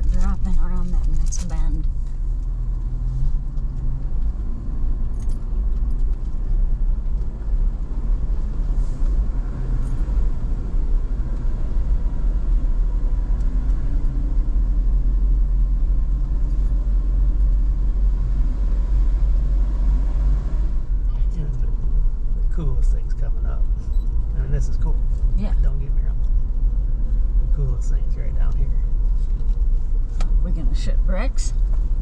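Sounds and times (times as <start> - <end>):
vehicle engine and tyres rumbling: 0.0 - 32.0.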